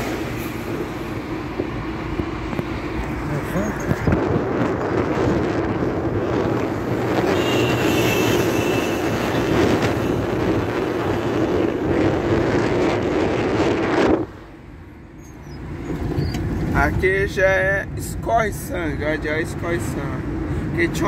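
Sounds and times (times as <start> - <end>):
tyre and wind noise: 0.0 - 17.2.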